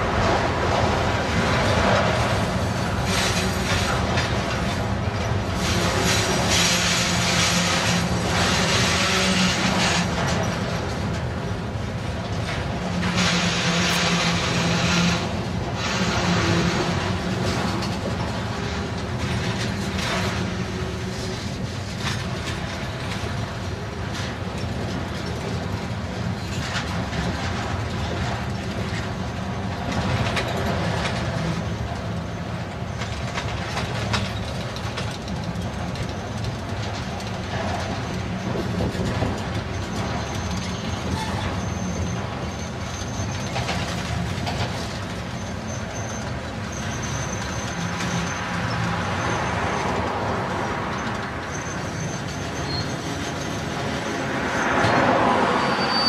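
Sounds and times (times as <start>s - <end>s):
train wheels rumbling on rail: 0.0s - 56.0s
wheels clacking over rail joints: 0.0s - 56.0s.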